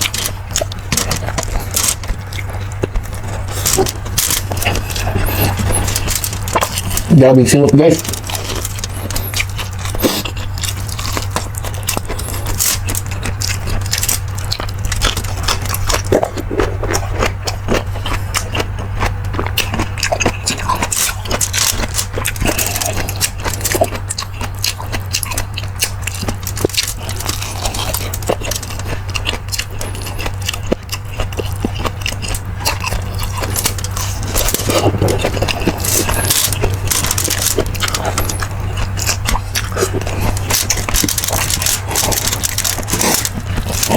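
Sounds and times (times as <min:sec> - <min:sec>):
low hum: 0:00.0 - 0:43.9
person chewing: 0:00.0 - 0:43.9.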